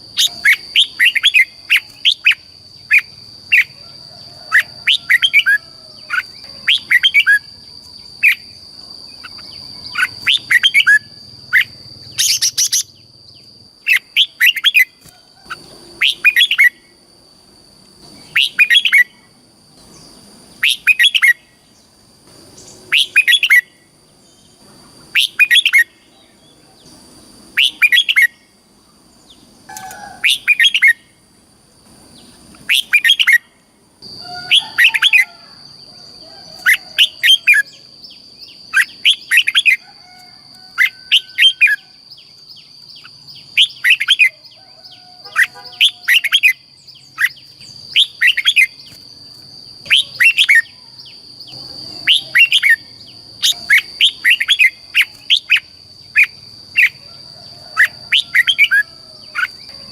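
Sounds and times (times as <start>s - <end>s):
steady high-pitched whine: 0.0s - 59.9s.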